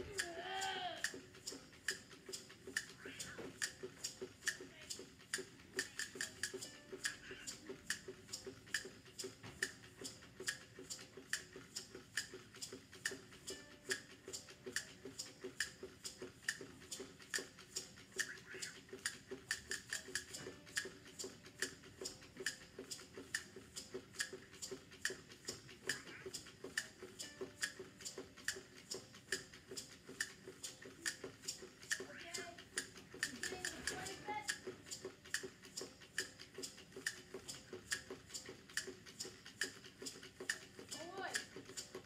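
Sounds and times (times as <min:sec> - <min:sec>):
quiet steady ticking: 0:00.0 - 0:42.0.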